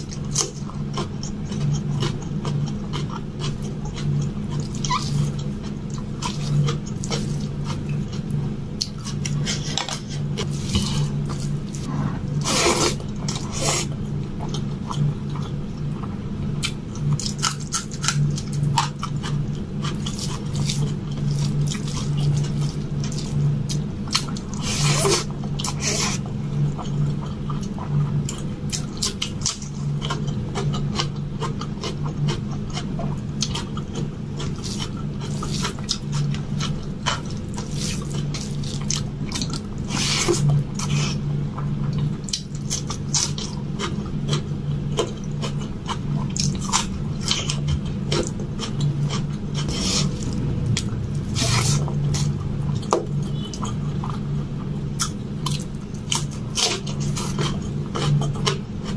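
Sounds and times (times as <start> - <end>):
steady low hum: 0.0 - 58.9
wet chewing: 0.0 - 58.9.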